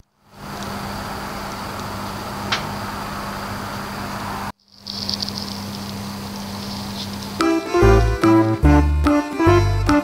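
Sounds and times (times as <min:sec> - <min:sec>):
oven fan hum: 0:00.0 - 0:09.0.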